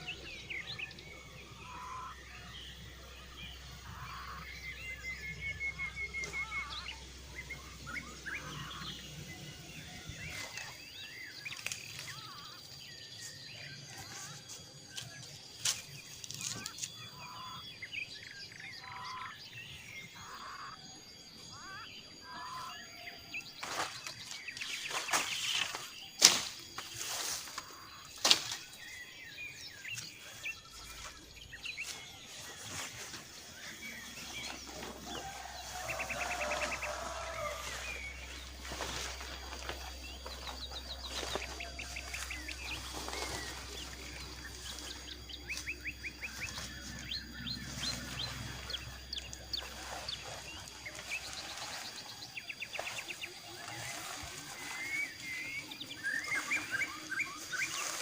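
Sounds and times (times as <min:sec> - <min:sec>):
bird trills: 0:00.0 - 0:58.0
birds chirping: 0:00.0 - 0:58.0.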